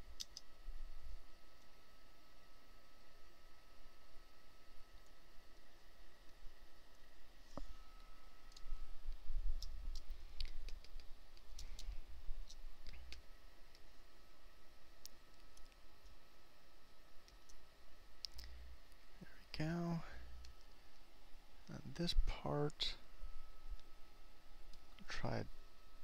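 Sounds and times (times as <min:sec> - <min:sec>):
faint background hum: 0:00.0 - 0:26.0.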